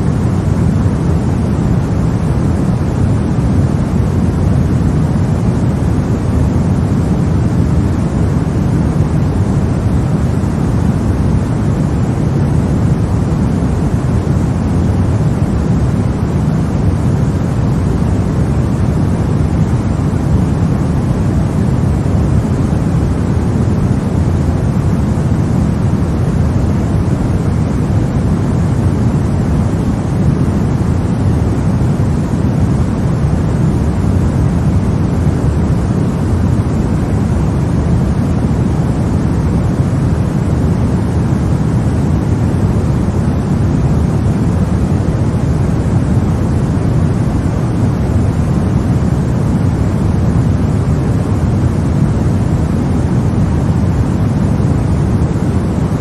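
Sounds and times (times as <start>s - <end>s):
deep rumbling white noise: 0.0s - 56.0s.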